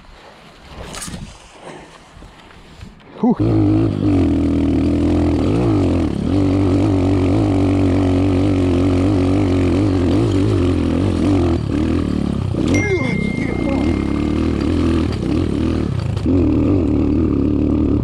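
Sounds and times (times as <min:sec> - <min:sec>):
dirt bike engine revving: 0:03.4 - 0:18.0.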